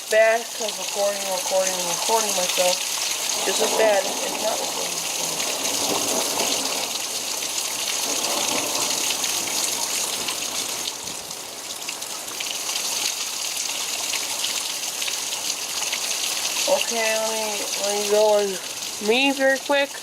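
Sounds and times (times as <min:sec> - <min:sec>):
rain pouring: 0:00.0 - 0:20.0.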